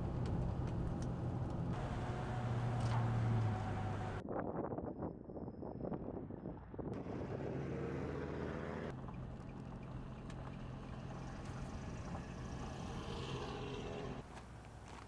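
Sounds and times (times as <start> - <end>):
tyre and road noise: 0.0 - 4.2, 7.0 - 15.0
vehicle engine running: 0.0 - 4.2, 7.0 - 15.0.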